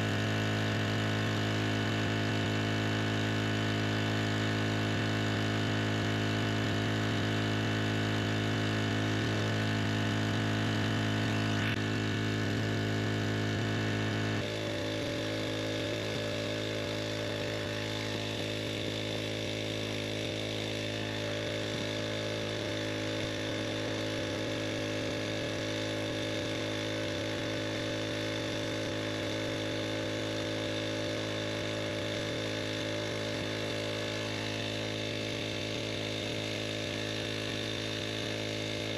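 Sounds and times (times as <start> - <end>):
engine water pump running: 0.0 - 38.9.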